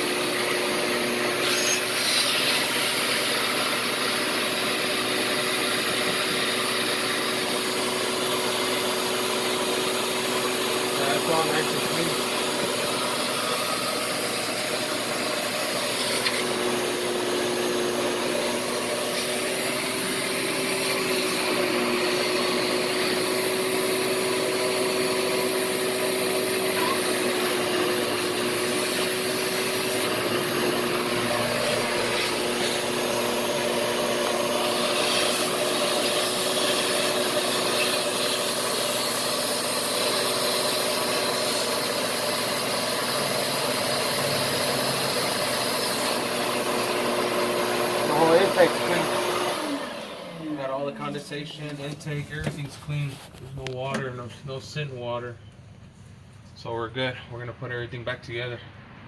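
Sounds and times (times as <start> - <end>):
shop vacuum running: 0.0 - 55.2.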